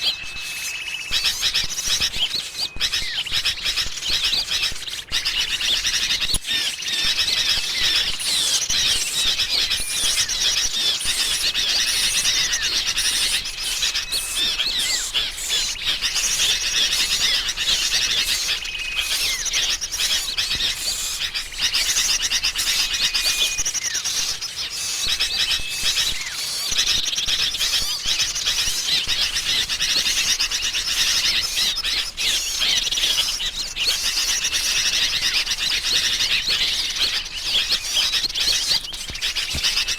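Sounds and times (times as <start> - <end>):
birds chattering and trilling: 0.0 - 39.9.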